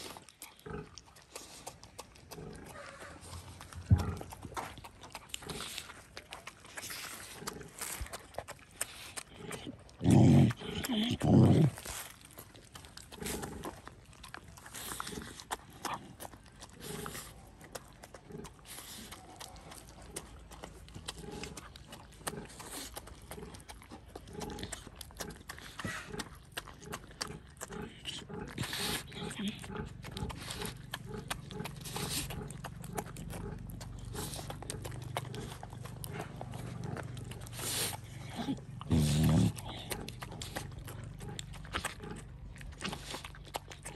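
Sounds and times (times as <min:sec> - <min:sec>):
dog chewing and licking: 0:00.0 - 0:43.9.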